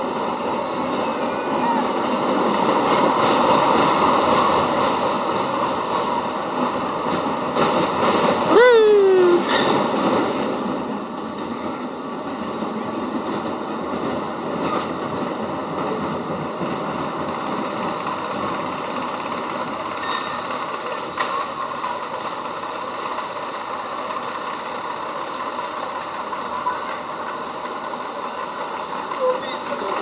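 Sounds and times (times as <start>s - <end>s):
roller coaster rolling on track: 0.0s - 30.0s.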